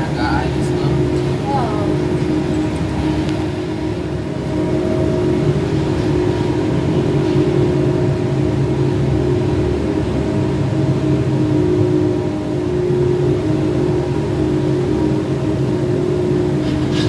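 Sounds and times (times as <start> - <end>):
low droning tones: 0.0 - 17.0
vehicle cabin rumble and hum: 0.0 - 17.0.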